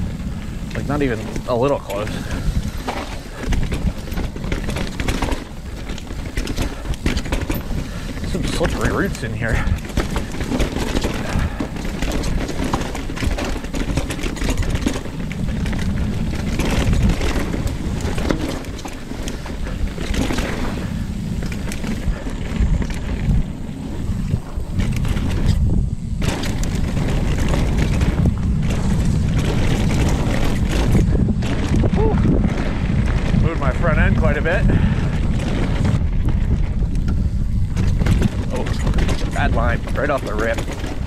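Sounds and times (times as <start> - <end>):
mountain bike rattling on trail: 0.0 - 41.0
wind buffeting microphone: 0.0 - 41.0.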